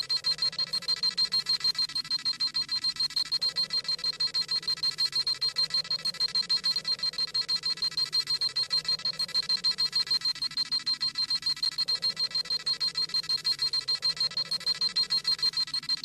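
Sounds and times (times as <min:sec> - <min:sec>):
rapid high electronic beeping: 0:00.0 - 0:16.0.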